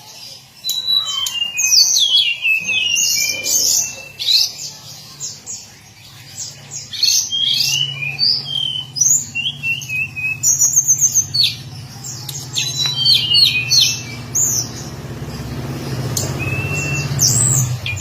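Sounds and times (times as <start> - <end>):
bird warbling song: 0.0 - 18.0.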